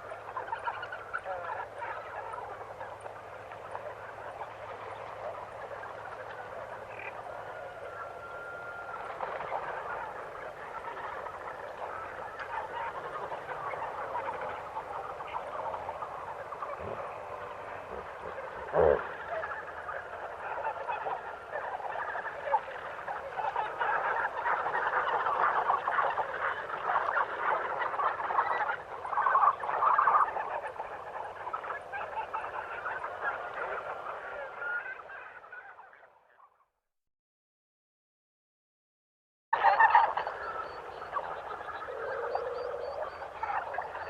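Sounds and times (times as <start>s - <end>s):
chorus of animals calling: 0.0s - 36.6s, 39.6s - 44.0s.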